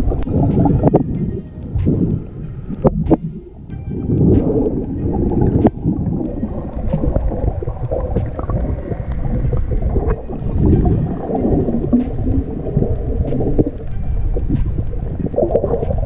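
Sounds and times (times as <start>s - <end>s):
sharp underwater clicks: 0.0s - 16.0s
underwater rumble and gurgling: 0.0s - 16.0s.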